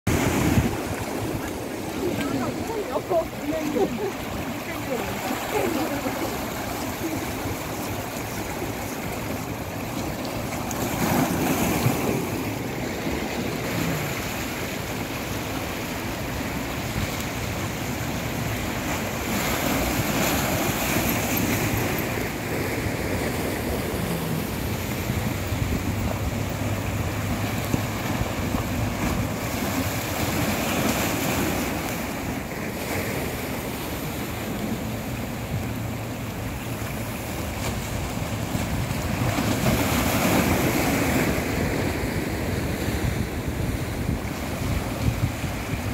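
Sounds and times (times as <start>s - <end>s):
wind buffeting microphone: 0.1s - 14.7s, 16.0s - 36.1s, 38.0s - 45.9s
waves splashing against rocks: 0.1s - 45.9s.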